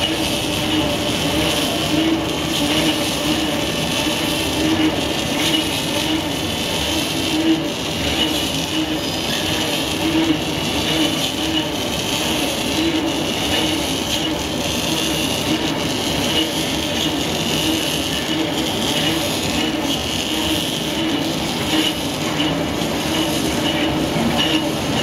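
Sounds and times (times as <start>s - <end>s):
stretch-wrapping machine running: 0.0s - 25.0s.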